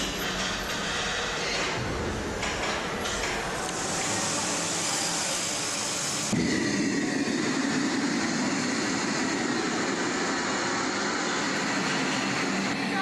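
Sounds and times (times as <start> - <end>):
gas burner roar: 0.0 - 13.0.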